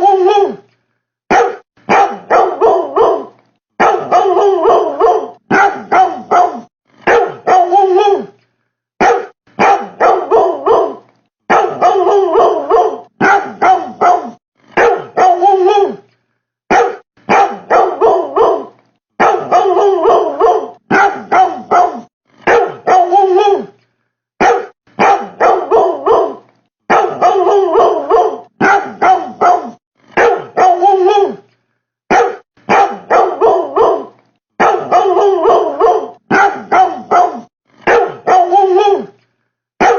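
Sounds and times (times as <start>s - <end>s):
dog barking: 1.3s - 8.3s, 9.0s - 16.0s, 16.7s - 23.7s, 24.4s - 31.4s, 32.1s - 39.2s.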